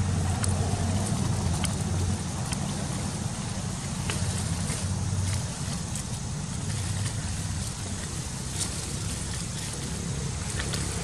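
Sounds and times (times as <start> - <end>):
low rumbling noise: 0.0 - 11.0.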